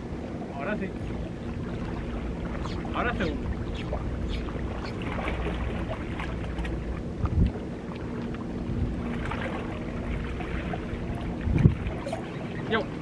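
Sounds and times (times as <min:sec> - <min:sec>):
faint steady hum: 0:00.0 - 0:13.0
wind buffeting microphone: 0:00.0 - 0:13.0.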